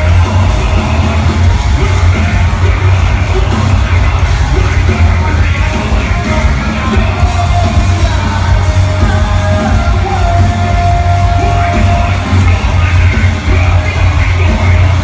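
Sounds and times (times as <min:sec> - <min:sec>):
deep bass guitar: 0:00.0 - 0:15.0
distorted electric guitars: 0:00.0 - 0:15.0
drums: 0:00.0 - 0:15.0.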